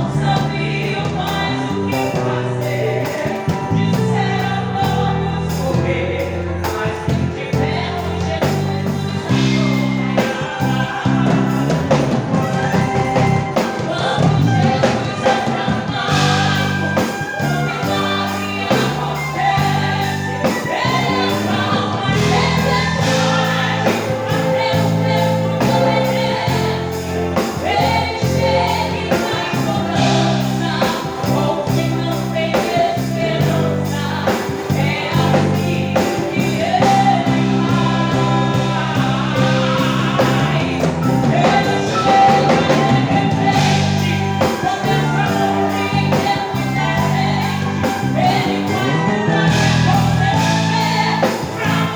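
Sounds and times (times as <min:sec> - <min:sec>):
group singing a hymn: 0:00.0 - 0:51.9
instrumental accompaniment: 0:00.0 - 0:51.9
stepping bass line: 0:06.9 - 0:34.1, 0:34.7 - 0:51.9.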